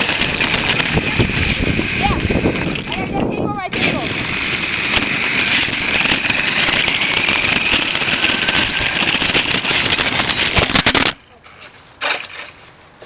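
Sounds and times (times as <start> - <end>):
tyres rattling on ground: 0.0 - 13.0.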